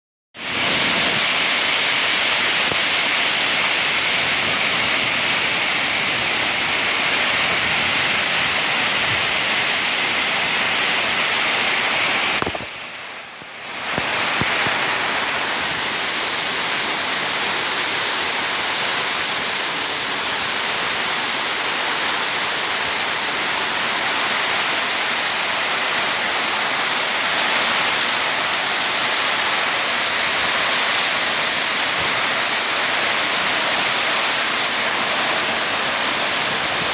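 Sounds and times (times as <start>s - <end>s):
heavy rain pouring: 0.4s - 36.9s.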